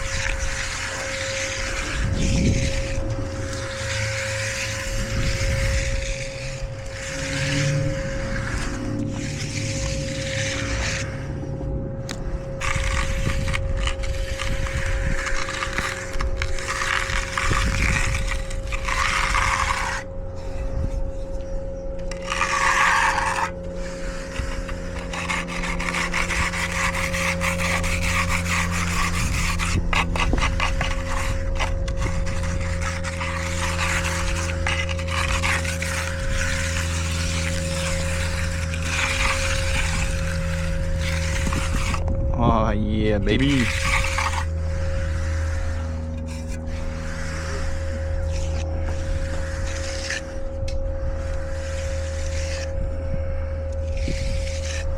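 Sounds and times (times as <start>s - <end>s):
low engine hum: 0.0s - 54.9s
tool scraping wet concrete: 0.0s - 54.9s.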